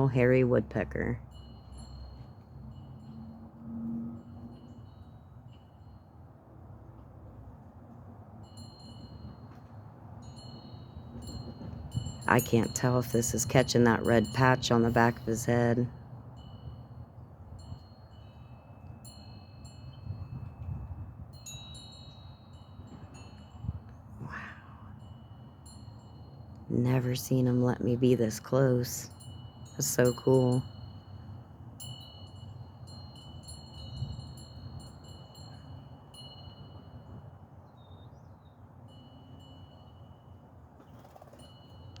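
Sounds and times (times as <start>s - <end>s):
wind chimes tinkling: 0.0s - 6.5s, 8.2s - 37.6s, 38.8s - 40.7s, 41.3s - 42.0s.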